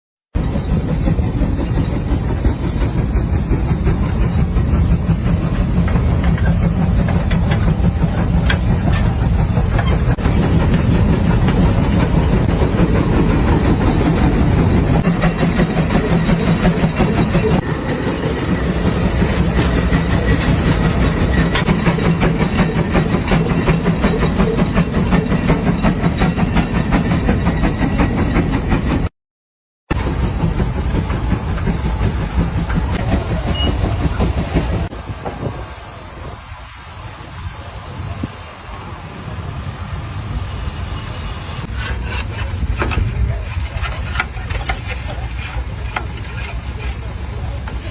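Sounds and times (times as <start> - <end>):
steam tractor clattering: 0.4 - 29.1, 29.9 - 39.2, 40.1 - 47.9.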